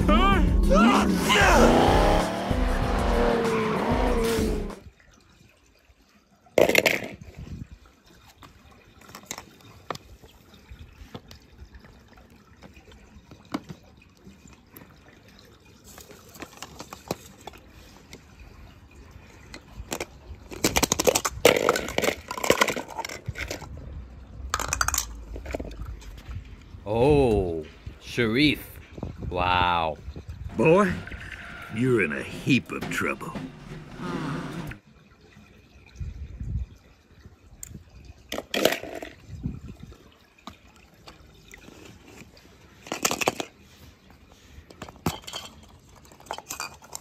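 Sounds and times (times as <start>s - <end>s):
water splashing and sloshing: 2.0s - 47.0s.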